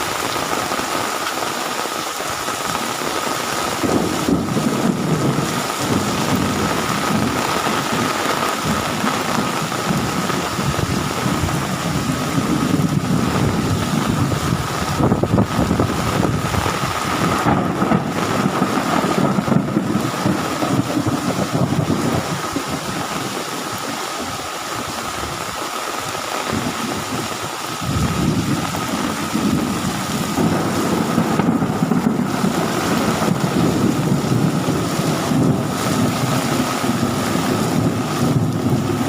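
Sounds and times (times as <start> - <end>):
heavy rain pouring: 0.0 - 39.0
thunder rumbling: 2.3 - 39.0.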